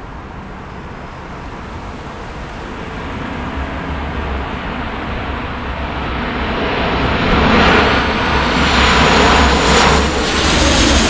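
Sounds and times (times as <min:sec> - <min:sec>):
high-pitched jet whine: 0:00.0 - 0:11.0
jet airliner flying overhead: 0:00.0 - 0:11.0.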